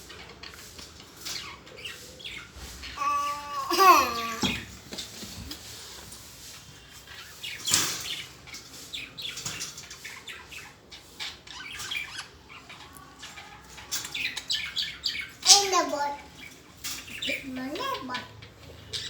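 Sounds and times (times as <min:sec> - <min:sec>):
birds chirping and squawking: 0:00.0 - 0:19.0.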